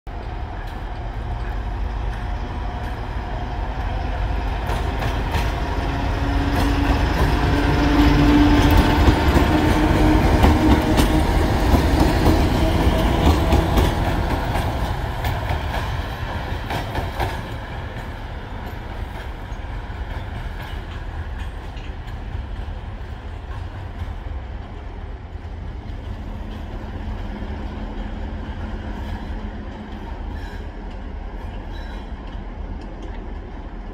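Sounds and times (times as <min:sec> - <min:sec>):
diesel locomotive engine rumble: 0:00.1 - 0:33.9.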